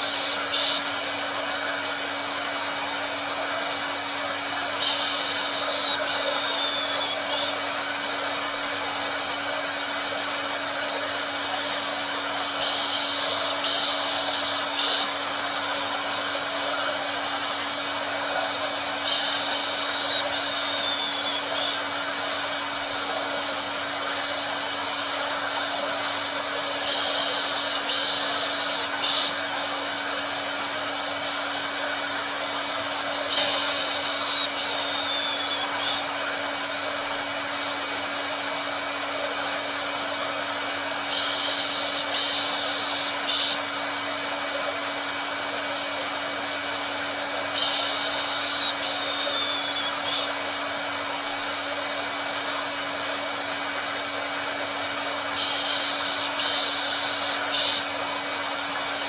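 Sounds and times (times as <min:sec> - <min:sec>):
brighter higher hiss: 0:00.0 - 0:38.8, 0:39.5 - 0:44.2, 0:46.4 - 0:53.8, 0:54.7 - 0:59.0
hair dryer running: 0:00.0 - 0:59.0.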